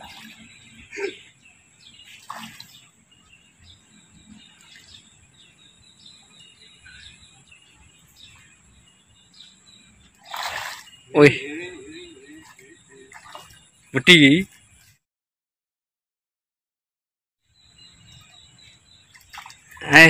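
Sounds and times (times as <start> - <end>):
faint bird chirps: 0.0 - 15.0, 17.4 - 20.0.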